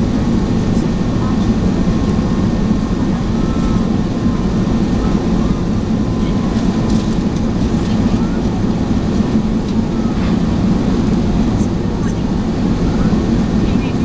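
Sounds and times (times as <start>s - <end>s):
airliner cabin engine roar: 0.0s - 14.0s.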